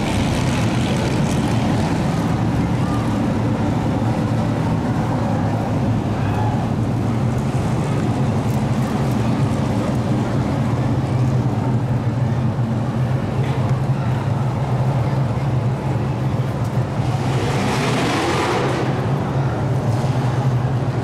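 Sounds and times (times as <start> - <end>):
race truck engines droning: 0.0 - 21.0.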